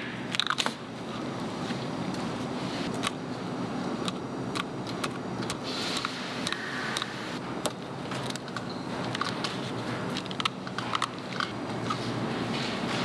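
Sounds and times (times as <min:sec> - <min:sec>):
factory machinery hum: 0:00.0 - 0:13.0.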